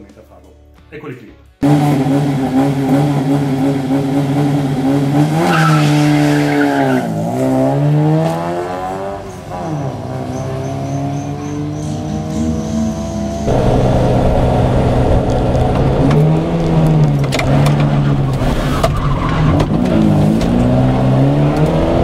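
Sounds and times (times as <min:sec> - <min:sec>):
rally car engine revving: 0:01.6 - 0:22.0.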